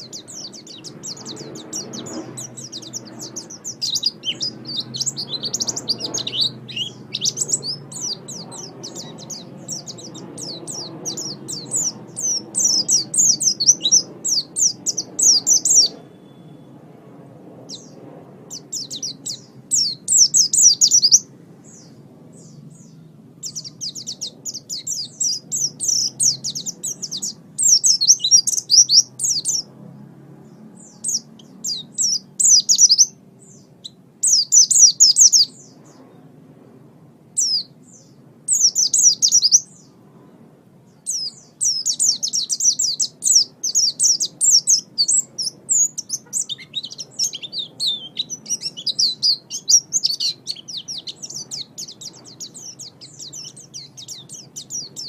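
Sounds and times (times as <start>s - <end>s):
songbird twittering: 0.0s - 16.8s, 17.7s - 29.7s, 30.4s - 36.1s, 37.4s - 40.0s, 40.9s - 55.0s.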